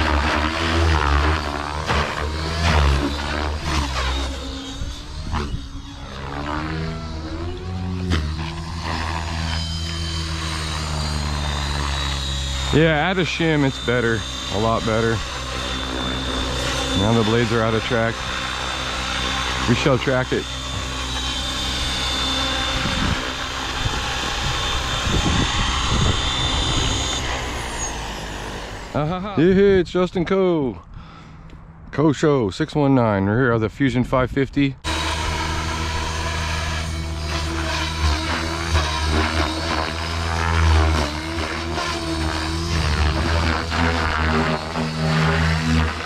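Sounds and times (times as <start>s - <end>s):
rc helicopter rotor whine: 0.0s - 29.8s, 34.8s - 46.0s.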